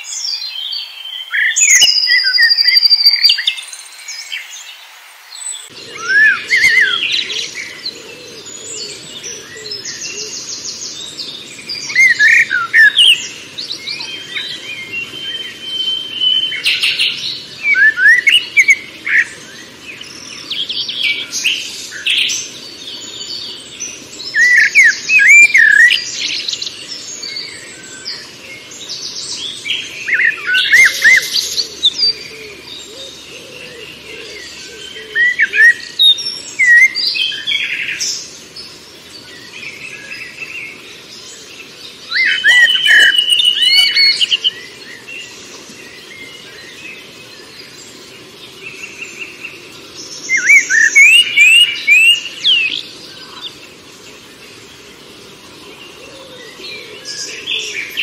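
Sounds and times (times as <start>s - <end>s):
songbirds singing and calling: 0.0s - 58.0s.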